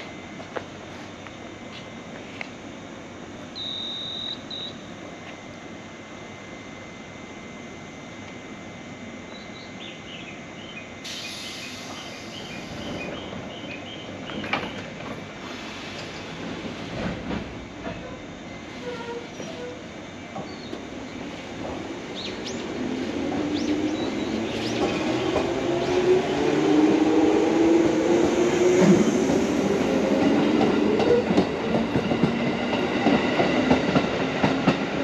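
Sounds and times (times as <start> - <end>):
electric train rumble: 4.4 - 35.0.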